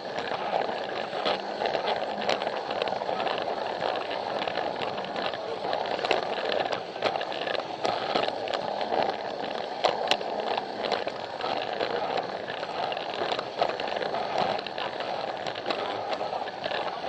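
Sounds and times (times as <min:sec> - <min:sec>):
toy train motor whirring: 0:00.0 - 0:17.0
wheels clicking on plastic track: 0:00.0 - 0:17.0.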